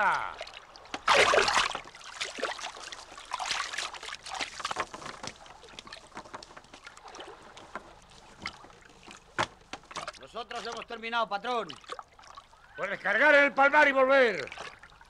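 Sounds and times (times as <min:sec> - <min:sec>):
water splashing and dripping: 0:00.0 - 0:13.0, 0:14.2 - 0:15.0.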